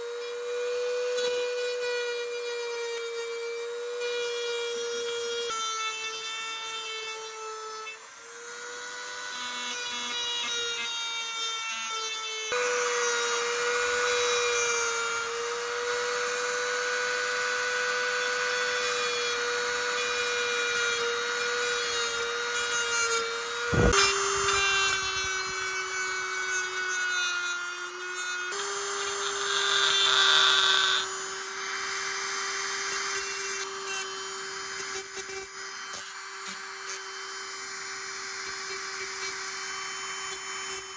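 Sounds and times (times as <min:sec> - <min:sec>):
hissing grind of cutting steel: 0:00.0 - 0:40.9
rotary grinder whine: 0:00.0 - 0:40.9.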